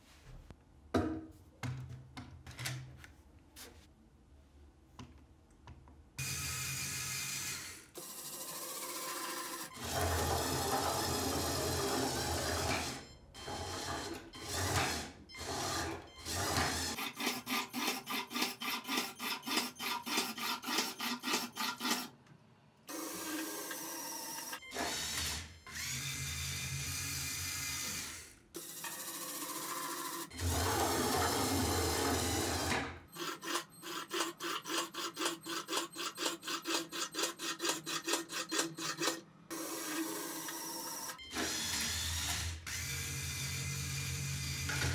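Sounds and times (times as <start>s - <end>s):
electric motors whirring through gears: 6.2s - 22.1s, 22.9s - 44.9s.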